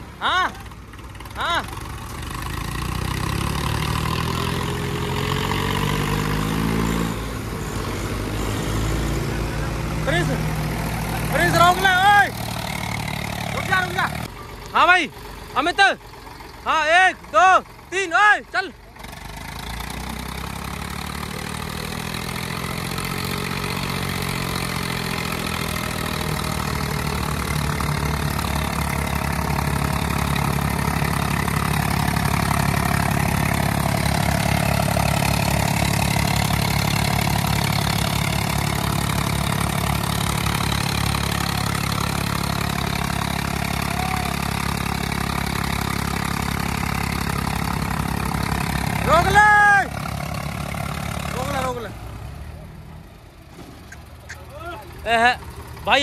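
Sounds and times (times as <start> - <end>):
tractor diesel engines laboring: 0.0 - 56.0.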